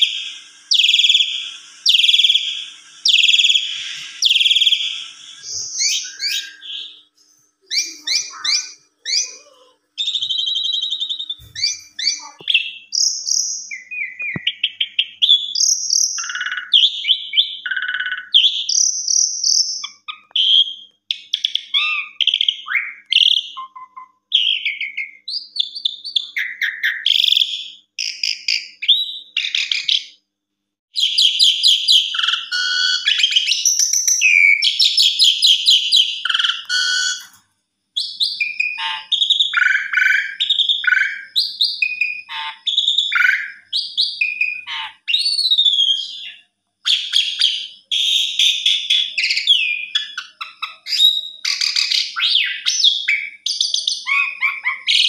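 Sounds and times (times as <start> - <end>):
starling singing: 0.0 - 30.2, 31.0 - 37.4, 38.0 - 55.0.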